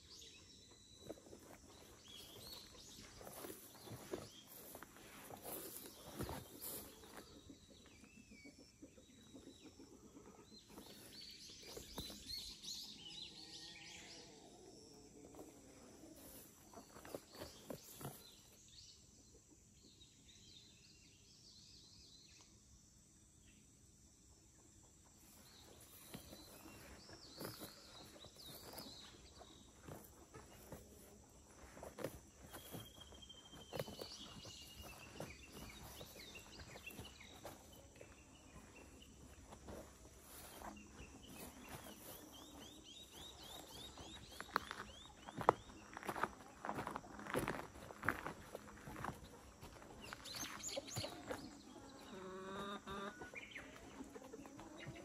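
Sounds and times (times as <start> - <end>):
birds chirping: 0.0 - 19.3, 25.0 - 55.0.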